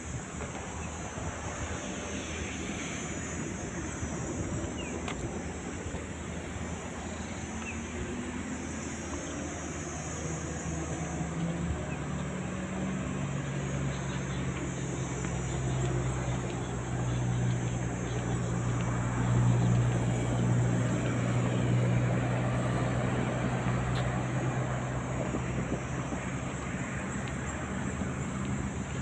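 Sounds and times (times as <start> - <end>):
rushing wind: 0.0 - 29.0
boat engine running: 3.2 - 29.0.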